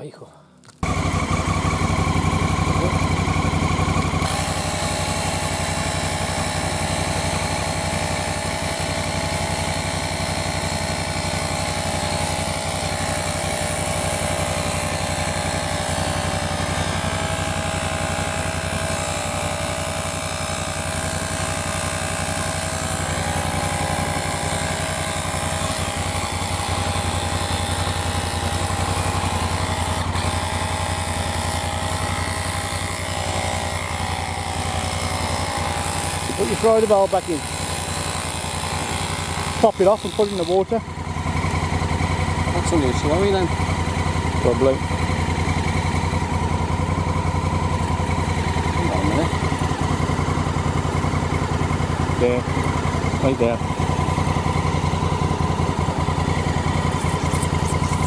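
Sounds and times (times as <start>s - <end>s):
tyre compressor whine: 0.2s - 58.0s
motorcycle engine idling: 0.8s - 58.0s.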